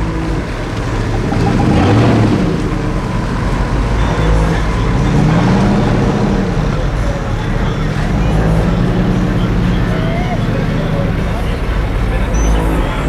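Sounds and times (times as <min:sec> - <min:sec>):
car engine revving: 0:00.0 - 0:13.0
steady rushing noise: 0:00.0 - 0:13.0.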